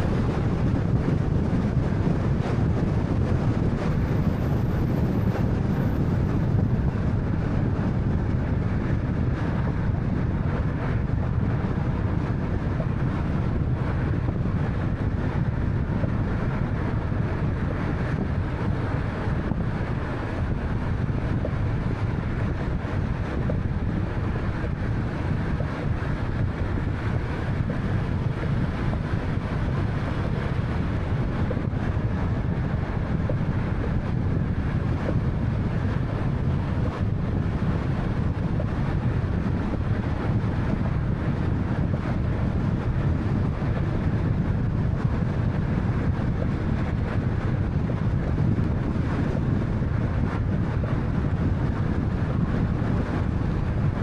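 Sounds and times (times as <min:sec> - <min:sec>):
car engine hum: 0:00.0 - 0:54.0
wind wash: 0:00.0 - 0:54.0.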